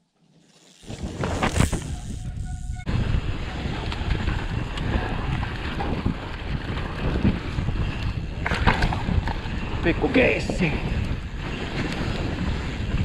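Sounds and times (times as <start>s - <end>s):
bike tyres rumbling on snow: 0.4s - 13.0s
wind buffeting microphone: 0.8s - 13.0s.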